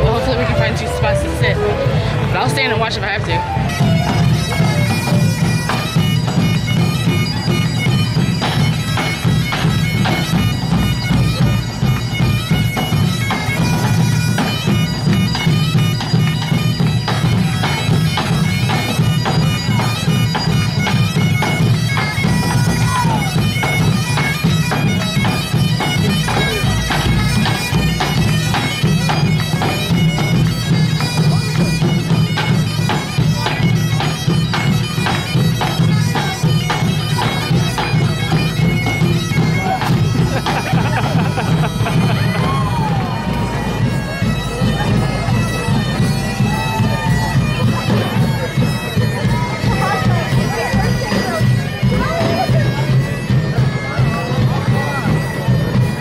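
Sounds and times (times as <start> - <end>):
bagpipes playing a tune: 0.0 - 56.0.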